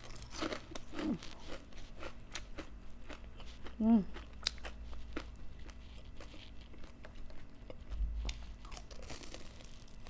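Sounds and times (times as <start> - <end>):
chewing and crunching crispy fish: 0.0 - 10.0.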